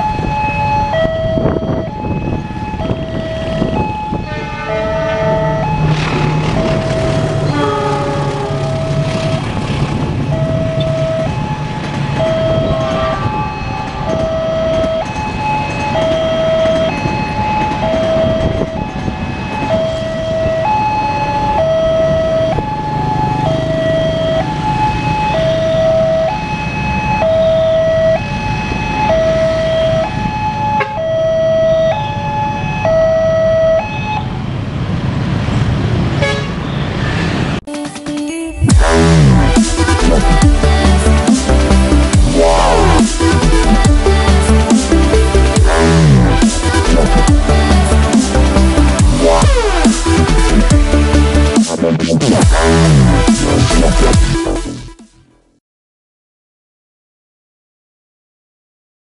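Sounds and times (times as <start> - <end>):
level crossing two-tone alarm: 0.0 - 9.6, 10.2 - 34.3, 38.6 - 55.1
idling traffic rumble: 0.0 - 36.2, 38.6 - 54.9.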